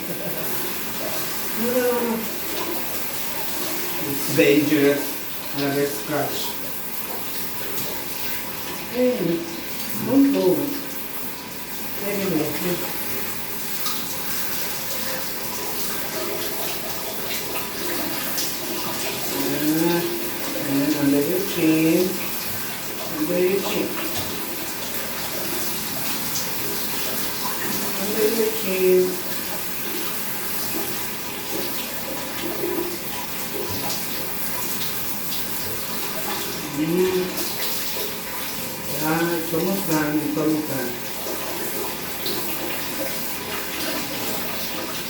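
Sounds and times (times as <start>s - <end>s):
shower water spraying on fur: 0.0s - 45.0s.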